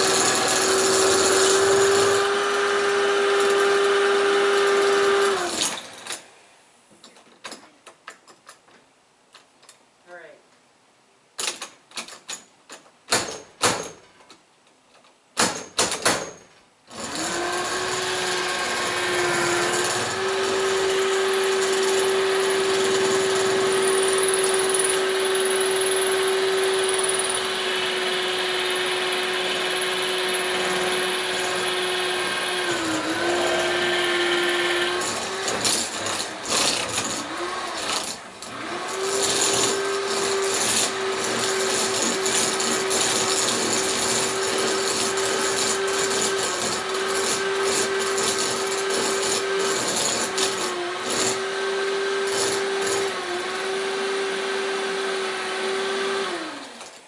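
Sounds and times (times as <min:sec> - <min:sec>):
power drill whining: 0:00.0 - 0:06.2, 0:16.9 - 0:57.0.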